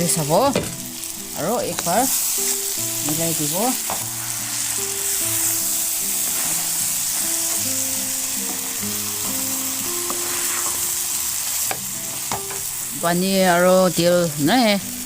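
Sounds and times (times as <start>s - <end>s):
meat sizzling in a pan: 0.0s - 15.0s
soft background music: 0.0s - 15.0s.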